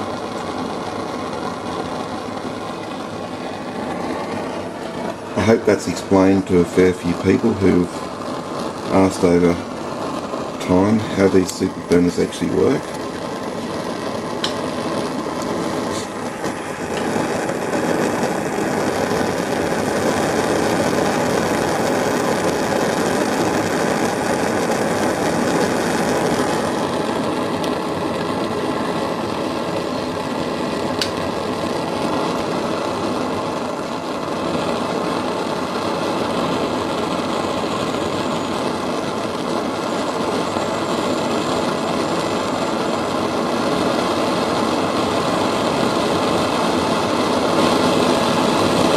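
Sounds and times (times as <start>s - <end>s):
spirit burner jet roaring: 0.0s - 48.9s.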